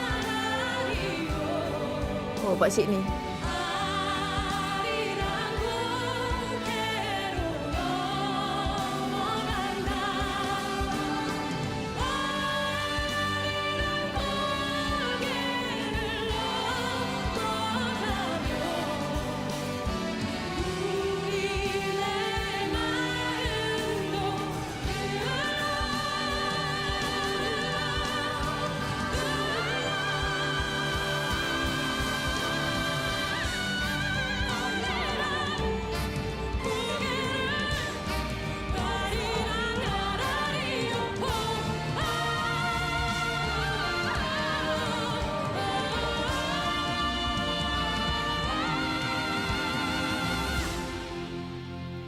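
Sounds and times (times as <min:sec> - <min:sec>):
person singing with vibrato: 0:00.0 - 0:51.6
backing track with drum beat: 0:00.0 - 0:51.9.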